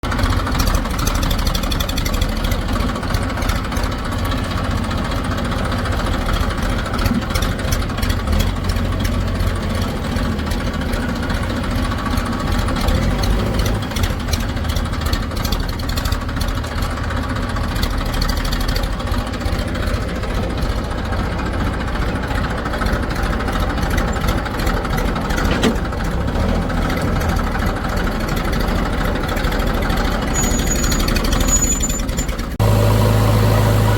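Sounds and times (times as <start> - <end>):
fast machinery clatter: 0.0 - 32.6
diesel engine drone: 0.0 - 33.9.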